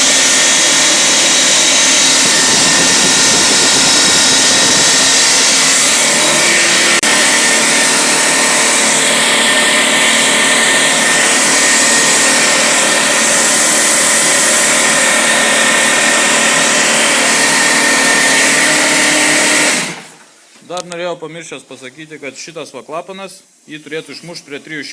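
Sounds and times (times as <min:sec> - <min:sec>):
air compressor running: 0:00.0 - 0:20.3.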